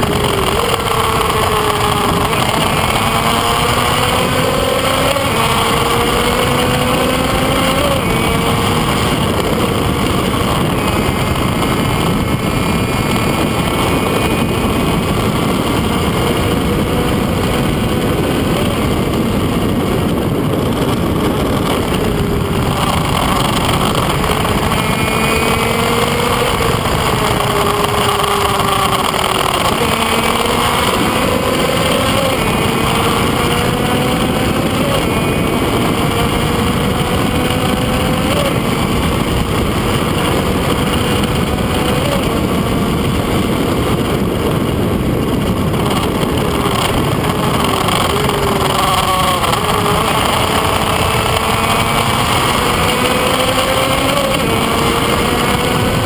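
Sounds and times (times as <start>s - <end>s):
two-stroke motorcycle engine revving: 0.0s - 56.0s
wind rush on camera: 0.0s - 56.0s.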